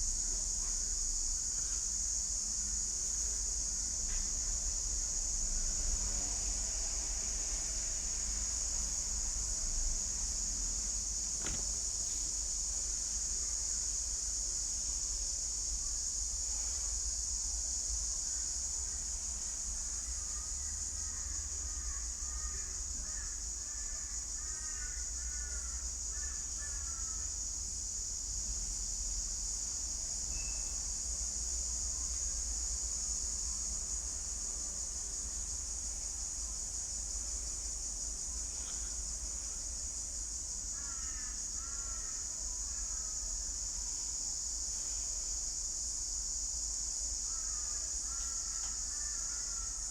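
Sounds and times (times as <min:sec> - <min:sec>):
high-pitched insect chorus: 0:00.0 - 0:49.9.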